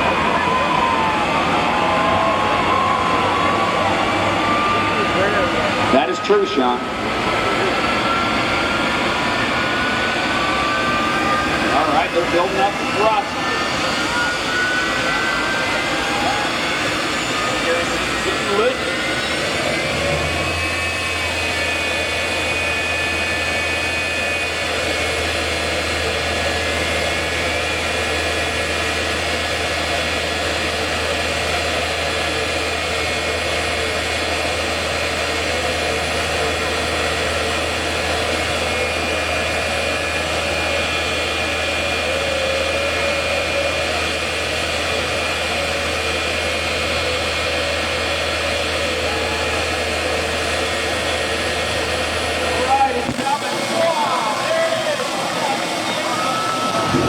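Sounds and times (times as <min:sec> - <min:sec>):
jet engine roaring with whine: 0:00.0 - 0:57.0.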